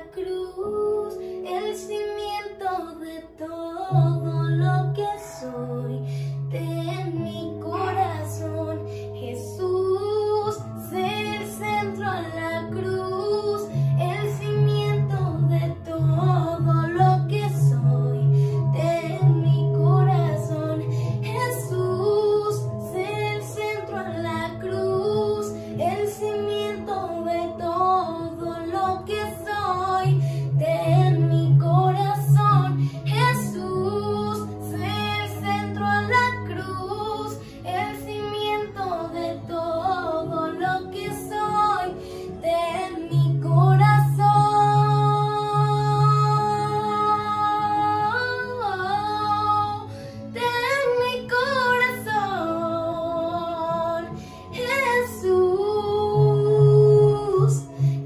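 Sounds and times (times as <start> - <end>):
instrumental backing: 0.0 - 58.0
woman singing: 0.0 - 58.0.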